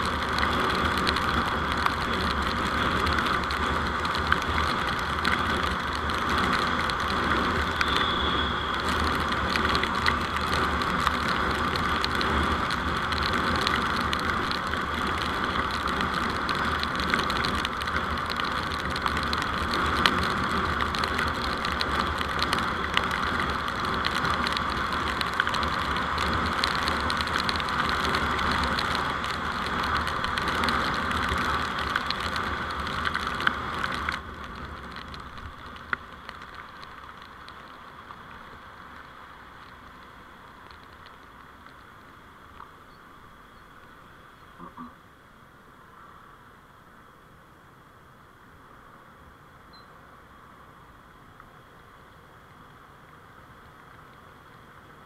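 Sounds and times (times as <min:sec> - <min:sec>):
vehicle road noise: 0:00.0 - 0:55.0.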